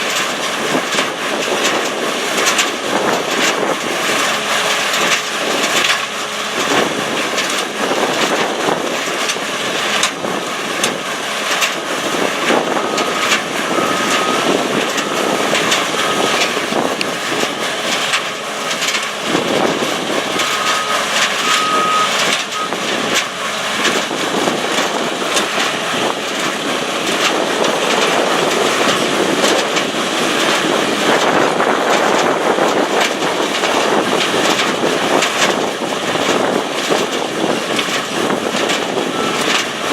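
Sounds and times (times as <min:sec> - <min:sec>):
heavy machinery din: 0:00.0 - 0:39.9.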